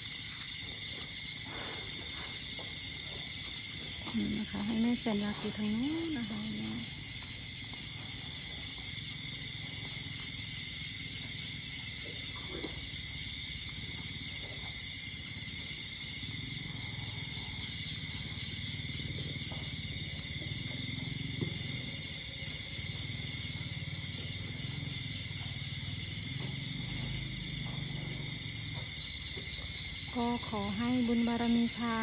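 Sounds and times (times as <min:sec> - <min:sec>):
night insects chorus: 0:00.0 - 0:32.0.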